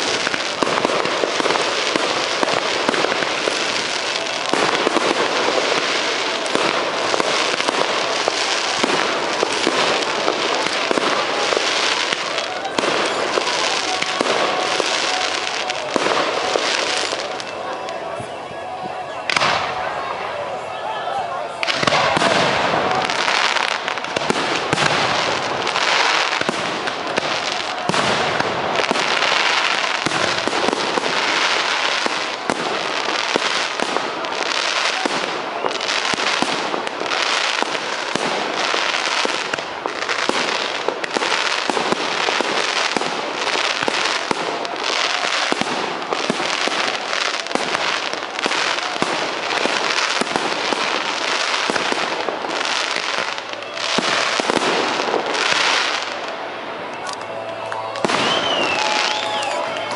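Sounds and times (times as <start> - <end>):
dense firework crackle: 0.0 - 20.4, 21.0 - 59.9.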